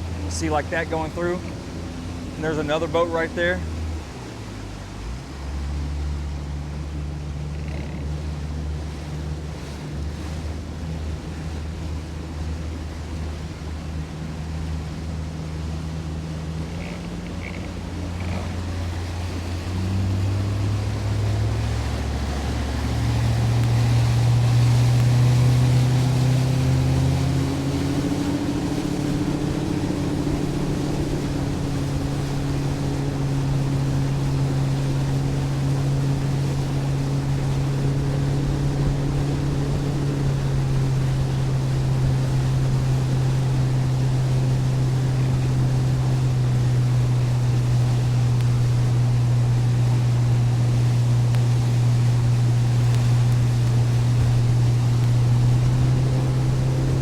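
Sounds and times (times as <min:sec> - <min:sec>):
boat motor: 0:00.0 - 0:57.0
water rushing past boat: 0:00.0 - 0:57.0.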